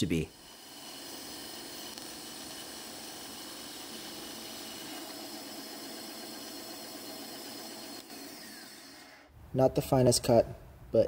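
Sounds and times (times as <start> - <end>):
bandsaw cutting metal: 0.0 - 9.3.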